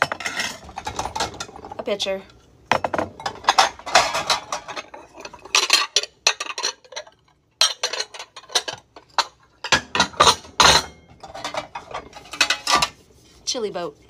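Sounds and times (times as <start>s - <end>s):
plates and bowls clinking: 0.0s - 1.9s, 2.7s - 13.0s.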